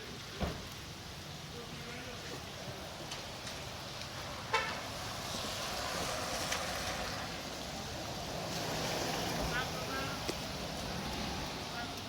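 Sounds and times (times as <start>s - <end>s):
traffic on wet pavement: 0.0s - 12.0s.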